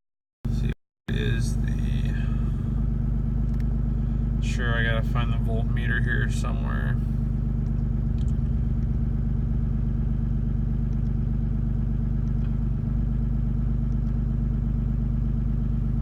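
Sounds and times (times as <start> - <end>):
diesel engine idling: 0.5 - 16.0.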